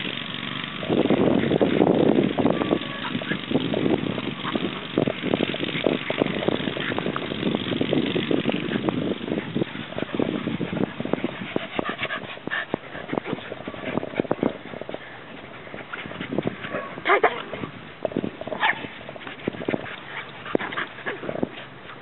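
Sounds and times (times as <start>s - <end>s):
dogs play-fighting: 0.0s - 22.0s.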